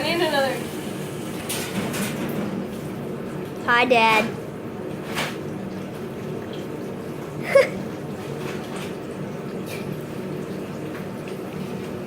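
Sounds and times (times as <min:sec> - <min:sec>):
oil bubbling in deep fryer: 0:00.0 - 0:12.0.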